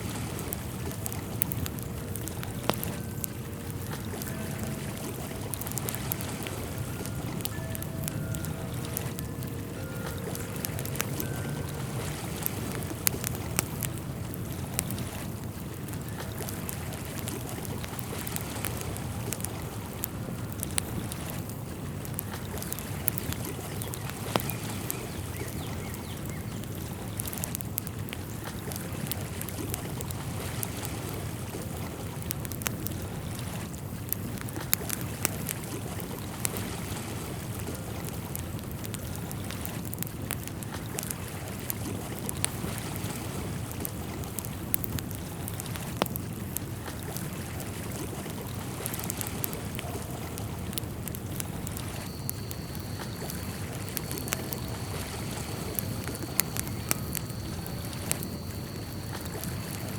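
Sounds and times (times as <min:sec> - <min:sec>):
light clicks and ticks: 0:00.0 - 0:59.9
water rushing: 0:00.0 - 0:59.9.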